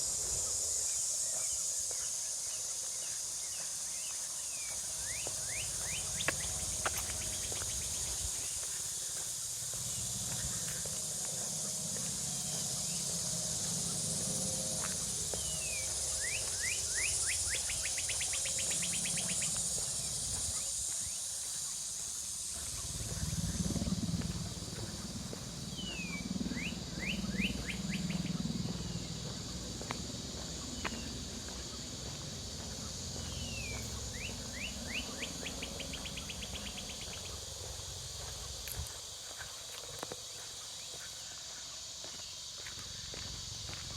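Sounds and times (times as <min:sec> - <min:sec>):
high insect buzz: 0:00.0 - 0:43.9
songbird singing: 0:00.0 - 0:43.9.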